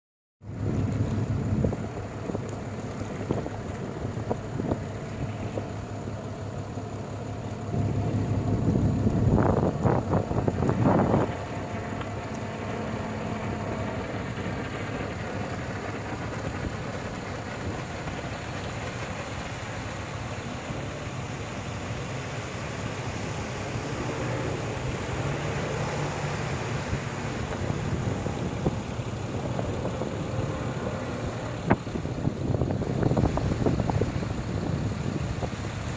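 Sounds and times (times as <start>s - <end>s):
outboard engines droning: 0.4s - 35.9s
wind rumbling on microphone: 0.4s - 35.9s.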